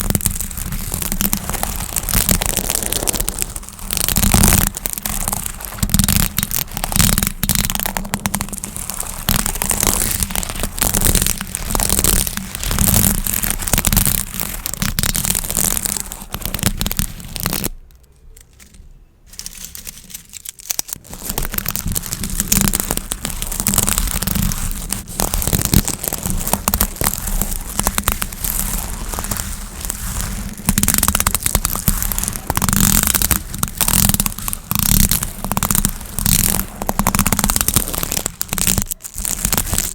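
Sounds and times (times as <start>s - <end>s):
gift bows crinkling: 0.0s - 39.9s.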